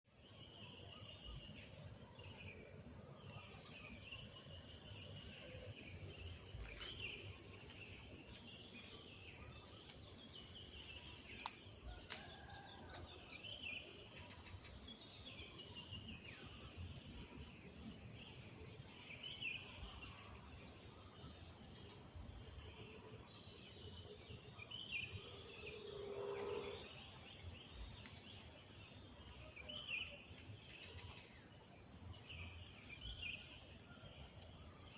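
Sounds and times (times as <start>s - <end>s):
high insect drone: 0.2s - 34.0s.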